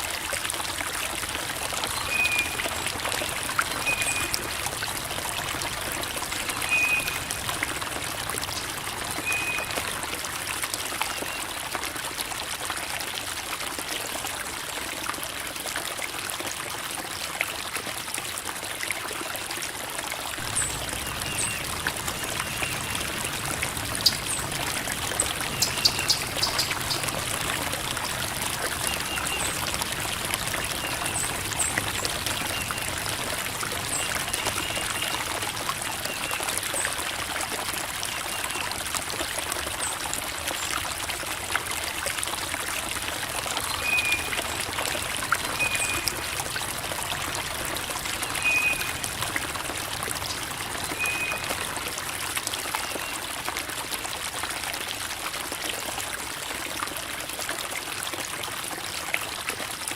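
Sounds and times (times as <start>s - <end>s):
creek water babbling over rocks: 0.0s - 59.9s.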